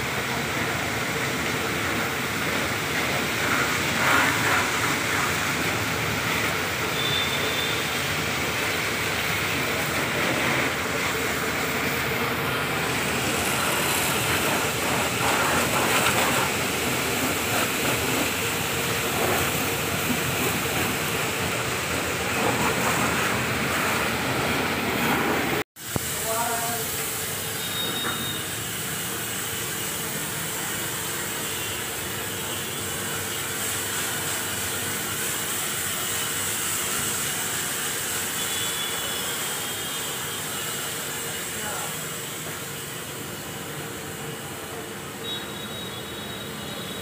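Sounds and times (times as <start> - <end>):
pressure washer spraying: 0.0 - 47.0.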